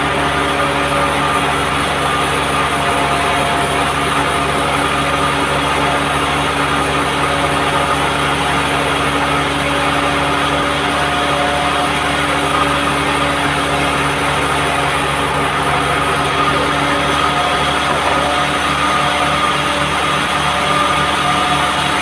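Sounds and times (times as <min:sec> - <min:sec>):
sawmill machine hum: 0:00.0 - 0:22.0.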